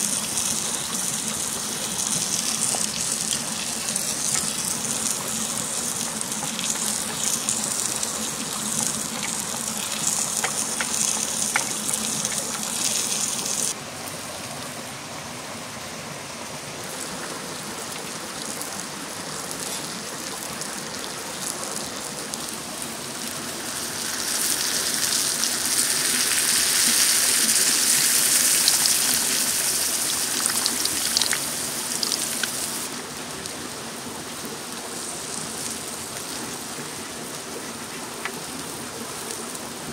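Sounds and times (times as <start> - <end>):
food sizzling on hot stone: 0.0 - 13.8, 16.8 - 33.5, 34.4 - 39.6.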